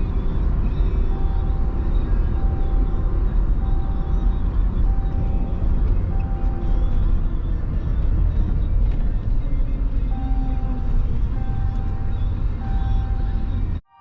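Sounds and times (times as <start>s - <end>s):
electronic beep: 0.0s - 13.8s
vehicle engine rumbling: 0.0s - 13.8s.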